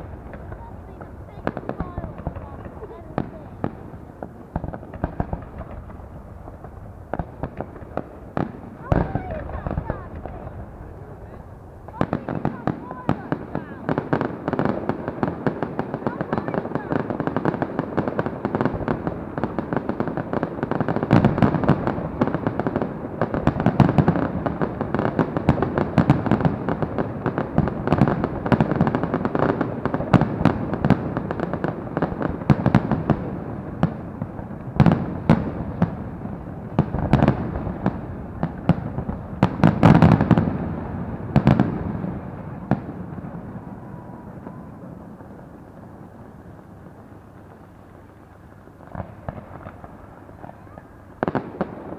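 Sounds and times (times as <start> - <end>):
big firework bursts: 0.0 - 51.9
fireworks bangs and crackling: 0.0 - 51.9.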